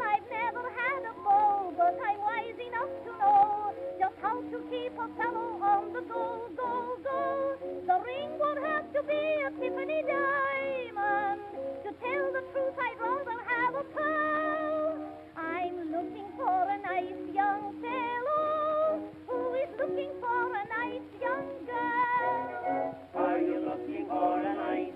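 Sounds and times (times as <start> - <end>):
old phonograph song with orchestra: 0.0 - 24.9.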